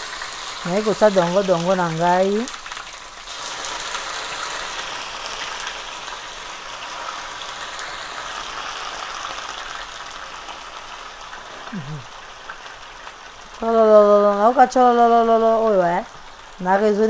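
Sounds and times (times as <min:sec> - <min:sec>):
okra sizzling in hot oil: 0:00.0 - 0:17.0.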